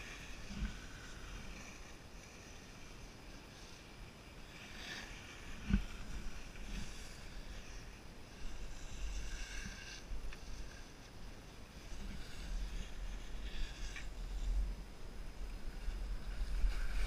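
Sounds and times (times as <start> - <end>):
skis scraping on snow: 0.0 - 17.0
wind rumbling on microphone: 0.0 - 17.0.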